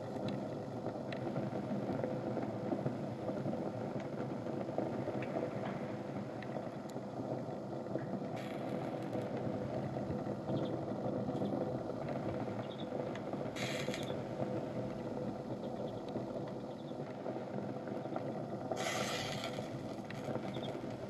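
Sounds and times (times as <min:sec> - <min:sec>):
faint crackling ticks: 0:00.0 - 0:21.0
flames rushing flutter: 0:00.0 - 0:21.0.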